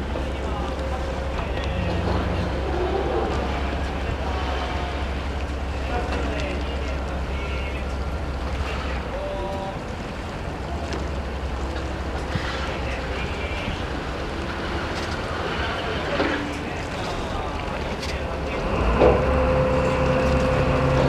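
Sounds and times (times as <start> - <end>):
boat engine rumbling: 0.0 - 21.0
water wash: 0.0 - 21.0.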